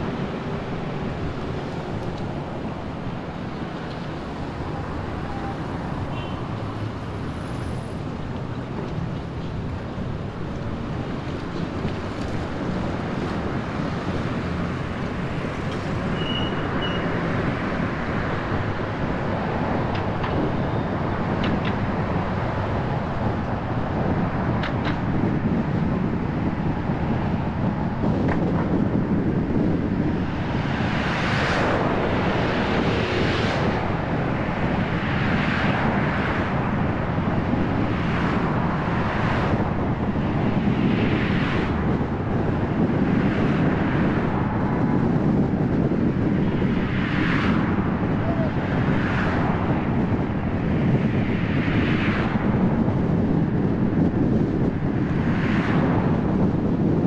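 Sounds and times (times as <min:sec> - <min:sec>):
car road and engine noise: 0:00.0 - 0:57.0
wind buffeting microphone: 0:00.0 - 0:57.0.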